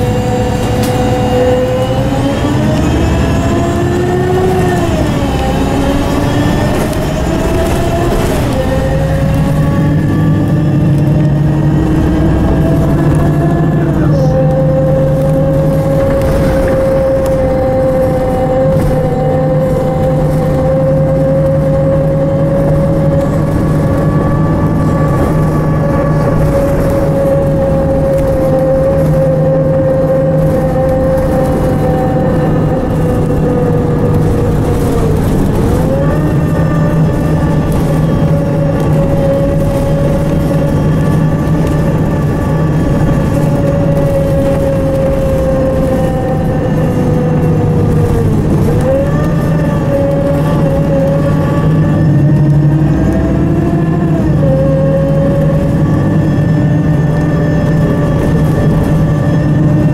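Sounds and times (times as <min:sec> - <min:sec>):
bus engine and road hum: 0:00.0 - 0:59.9
whining tone: 0:00.0 - 0:59.9.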